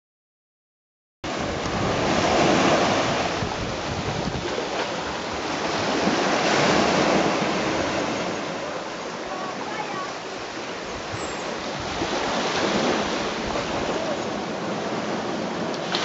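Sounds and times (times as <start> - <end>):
wind buffeting microphone: 1.3 - 9.0, 10.6 - 16.0
surf waves washing onto sand: 1.3 - 16.0.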